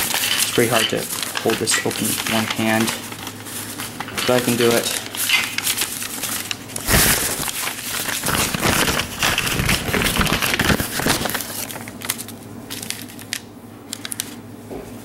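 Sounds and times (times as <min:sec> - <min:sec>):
paper rustling and crinkling: 0:00.0 - 0:13.4.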